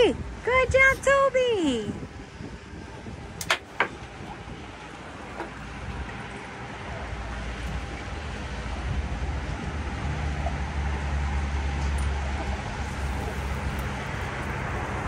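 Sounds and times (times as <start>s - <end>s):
wind and water noise: 0.0s - 15.0s.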